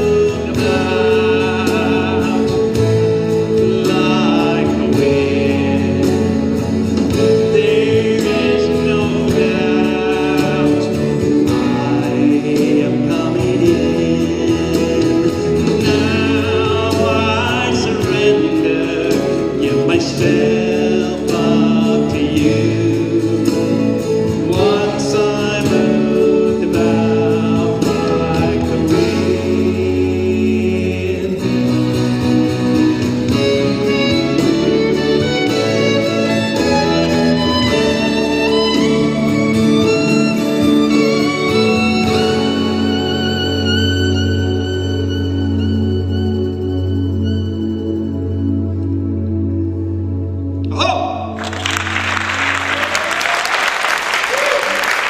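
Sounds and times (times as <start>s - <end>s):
wavering lead melody: 0.0s - 53.3s
steady musical accompaniment: 0.0s - 55.0s.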